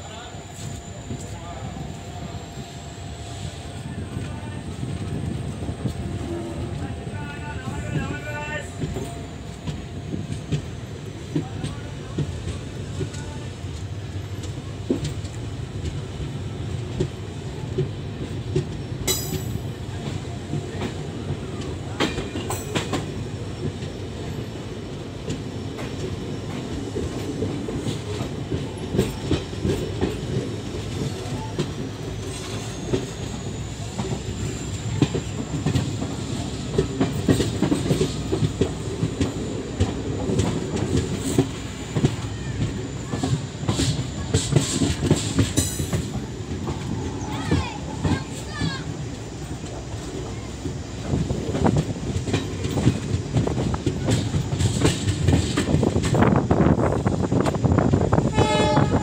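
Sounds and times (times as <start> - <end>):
train rumbling at speed: 0.0 - 59.0.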